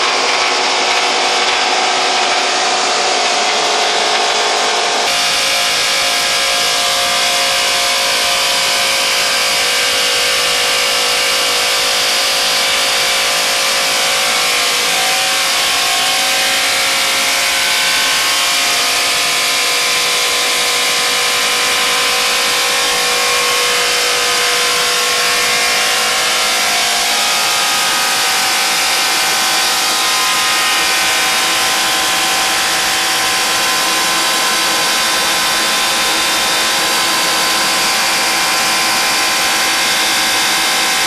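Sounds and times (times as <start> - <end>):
wood chipper running: 0.0 - 41.0.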